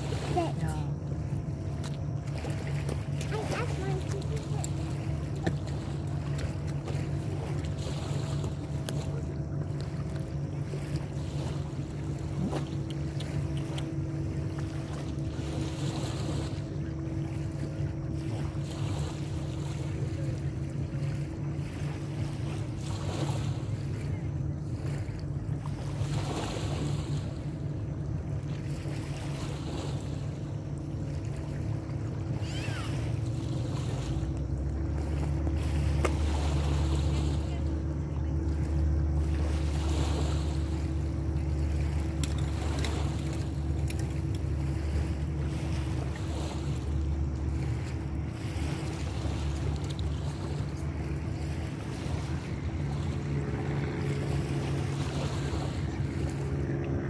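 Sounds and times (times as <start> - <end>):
low engine drone: 0.0 - 57.0.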